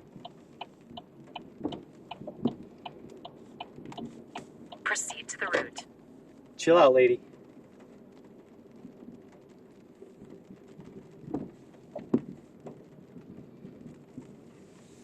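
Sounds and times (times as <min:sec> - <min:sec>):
light rain ticking on a car: 0:00.0 - 0:15.0.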